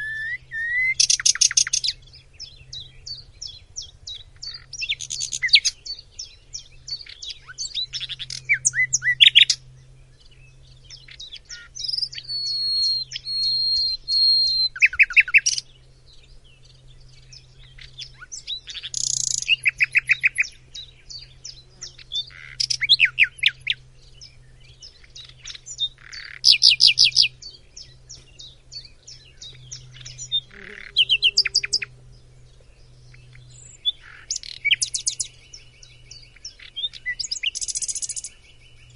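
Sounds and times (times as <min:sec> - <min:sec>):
bird singing trills and whistles: 0:00.0 - 0:38.9
faint low hum: 0:00.0 - 0:38.9.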